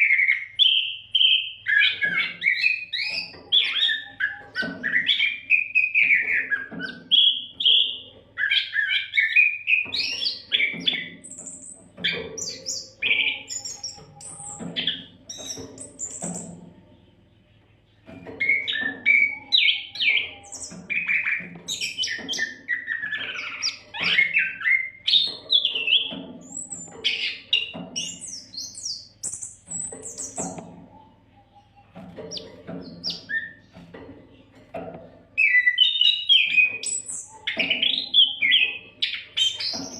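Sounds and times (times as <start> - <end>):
magpie-robin singing: 0.0 - 16.6, 17.6 - 33.8, 35.4 - 39.9.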